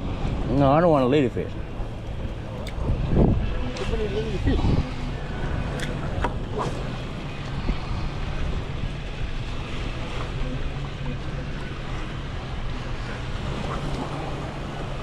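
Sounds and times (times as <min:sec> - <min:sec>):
sea water washing: 0:00.0 - 0:15.0
wind rumbling on microphone: 0:00.0 - 0:15.0.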